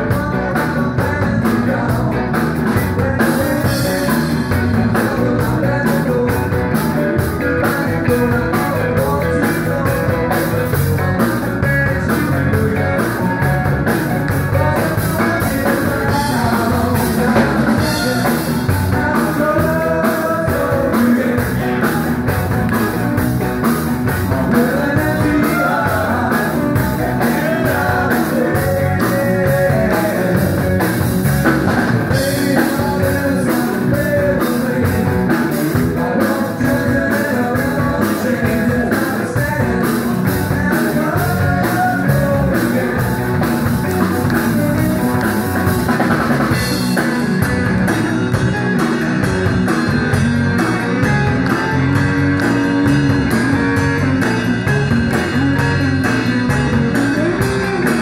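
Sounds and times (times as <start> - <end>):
man singing: 0.0 - 48.0, 50.0 - 58.0
bass guitar: 0.0 - 58.0
electric guitars: 0.0 - 58.0
drum beat: 0.2 - 58.0.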